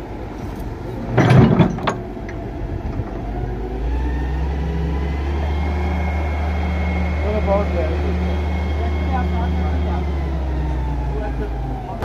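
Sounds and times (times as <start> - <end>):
excavator engine hum: 0.0 - 12.0
faint rising whine: 2.3 - 12.0.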